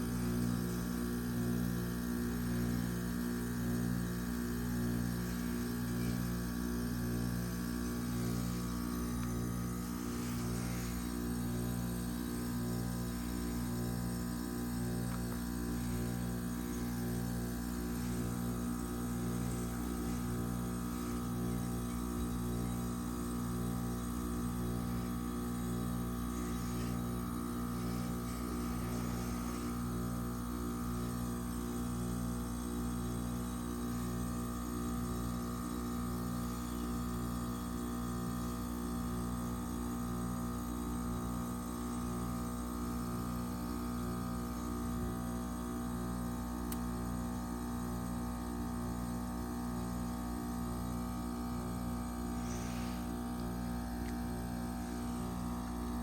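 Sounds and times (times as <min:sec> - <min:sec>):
heat pump humming: 0:00.0 - 0:56.0.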